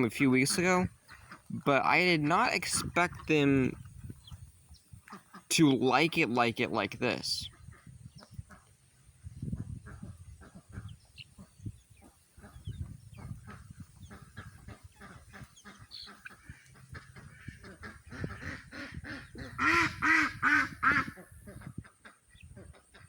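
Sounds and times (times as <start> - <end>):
ducks quacking loudly: 0.0 - 4.4, 5.0 - 8.7, 9.5 - 23.0
poultry soft calls: 0.0 - 6.3, 7.1 - 23.0.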